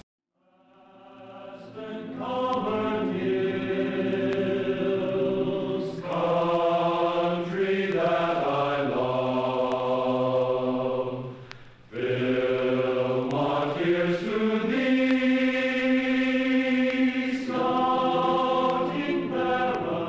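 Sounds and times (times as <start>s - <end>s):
voices chanting in held notes: 0.5s - 20.0s.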